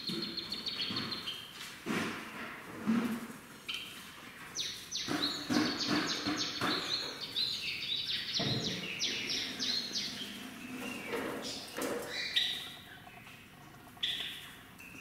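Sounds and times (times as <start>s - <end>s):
cage birds chirping: 0.0s - 2.6s, 3.6s - 15.0s.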